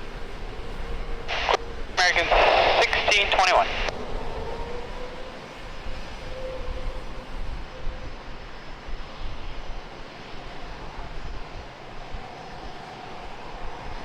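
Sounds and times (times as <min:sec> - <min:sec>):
high engine whine: 0:00.0 - 0:14.0
jet engines rushing: 0:00.3 - 0:14.0.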